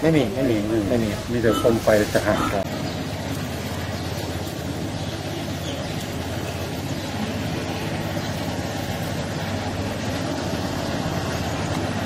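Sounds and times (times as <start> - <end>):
street noise: 0.0 - 12.0
vehicle engine idling: 0.0 - 12.0.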